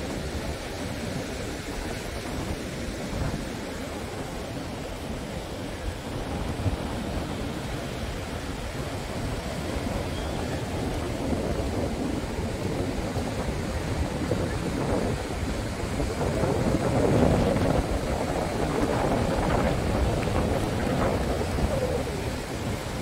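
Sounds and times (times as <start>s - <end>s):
surf washing: 0.0s - 23.0s
wind buffeting the microphone: 0.0s - 23.0s.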